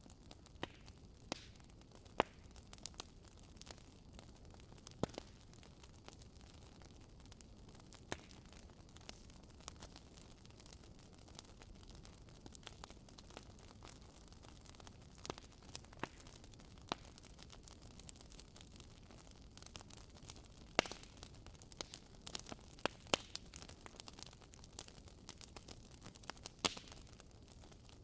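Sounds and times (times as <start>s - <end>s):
logs crackling and popping: 0.0s - 28.0s.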